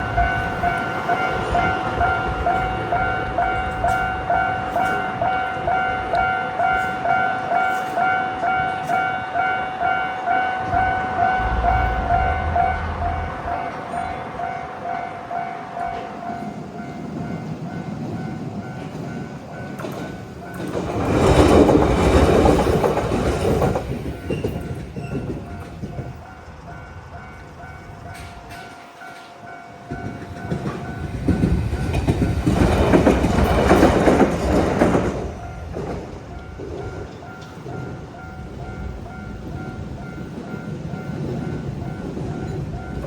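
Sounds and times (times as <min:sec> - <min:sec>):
electric trains passing: 0:00.0 - 0:43.0
level-crossing warning bell: 0:00.0 - 0:43.0.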